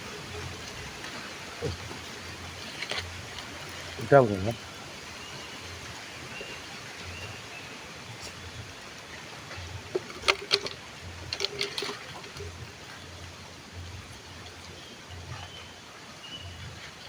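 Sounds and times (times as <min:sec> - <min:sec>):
stream water trickling: 0:00.0 - 0:17.0.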